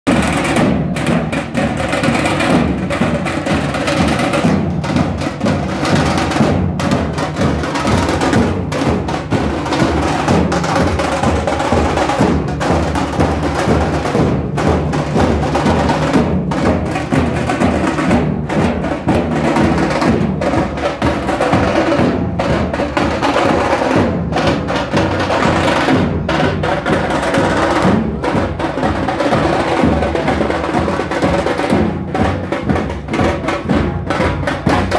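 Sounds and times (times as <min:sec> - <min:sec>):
barrel drums pounding: 0:00.1 - 0:34.9
kettle drums beaten with sticks: 0:00.1 - 0:34.9.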